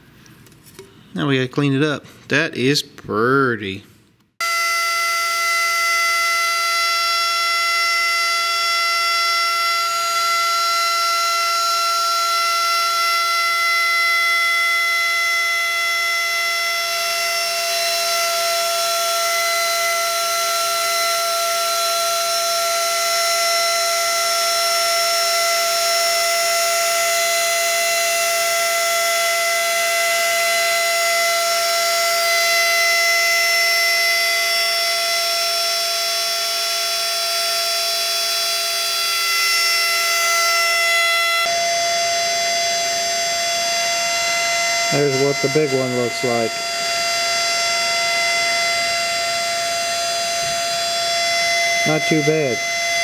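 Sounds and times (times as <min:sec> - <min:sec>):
spindle motor high-pitched whine: 0:04.4 - 0:53.0.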